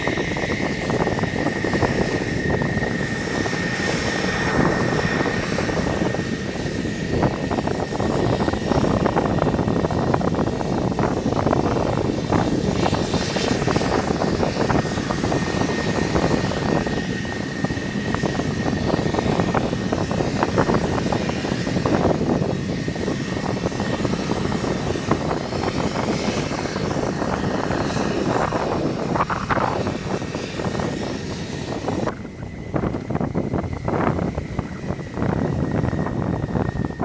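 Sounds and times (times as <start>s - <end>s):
jet engine idling: 0.0s - 37.0s.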